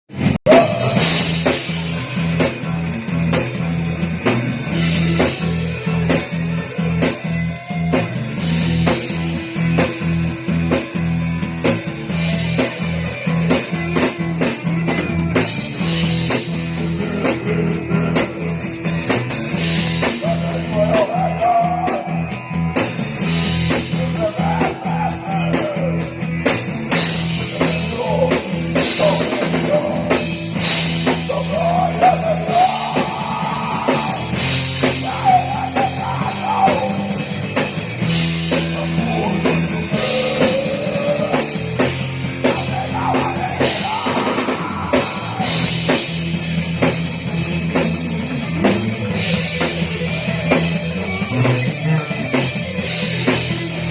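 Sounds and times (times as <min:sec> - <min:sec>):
bass guitar: 0:00.0 - 0:53.9
drum kit beat: 0:00.1 - 0:53.9
electric guitar: 0:00.1 - 0:53.9.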